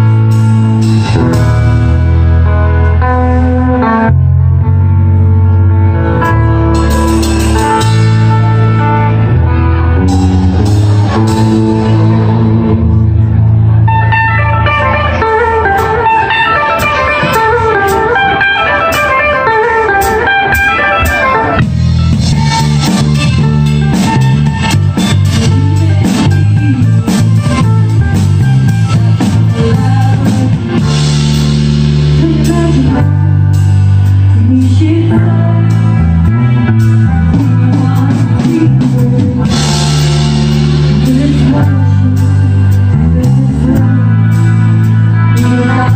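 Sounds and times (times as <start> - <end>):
drum kit: 0.0 - 4.1, 6.1 - 45.9
bass guitar long low notes: 0.0 - 45.9.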